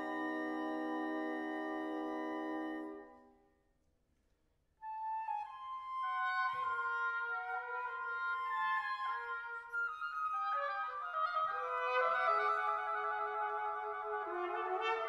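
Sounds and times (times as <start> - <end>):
flute and clarinet notes: 0.0 - 3.4, 4.8 - 15.0.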